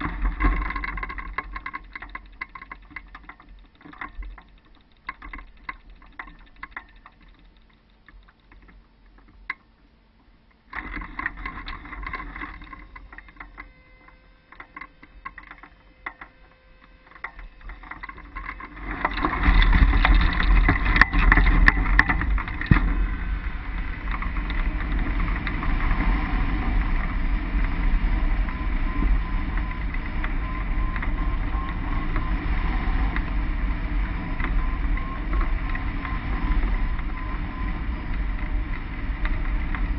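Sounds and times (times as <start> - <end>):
wind rushing over camera: 0.0 - 9.8, 10.6 - 39.9
clicks and rattles: 0.0 - 39.9.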